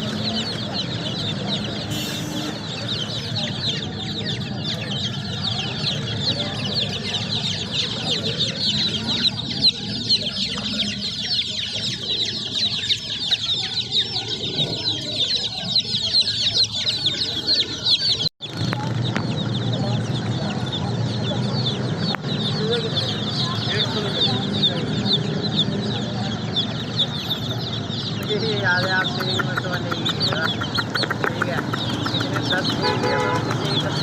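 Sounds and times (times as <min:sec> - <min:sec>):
baby chicks peeping: 0:00.0 - 0:34.0.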